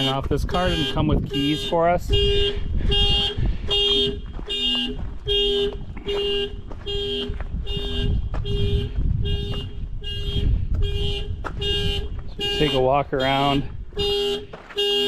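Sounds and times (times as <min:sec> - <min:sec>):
car alarm horn honking: 0:00.0 - 0:15.0.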